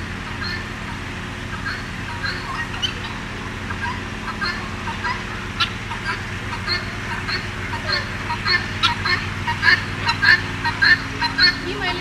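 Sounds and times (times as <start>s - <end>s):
steady low hum: 0.0s - 12.0s
turkeys and fowl calling: 0.0s - 12.0s.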